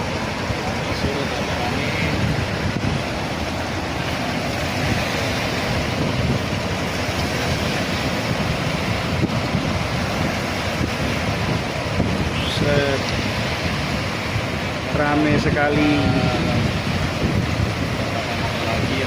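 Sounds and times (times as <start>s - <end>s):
surf: 0.0s - 19.0s
wind blowing across microphone: 0.0s - 19.0s.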